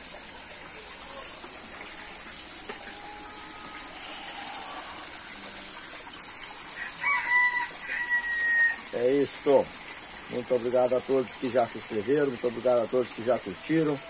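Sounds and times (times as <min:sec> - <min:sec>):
running water gushing: 0:00.0 - 0:14.0.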